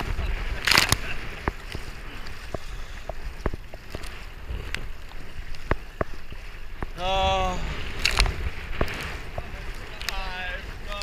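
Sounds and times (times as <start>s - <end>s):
paddle blades splashing: 0.0s - 11.0s
water sloshing against kayak: 0.0s - 11.0s
wind rumbling on microphone: 0.0s - 11.0s.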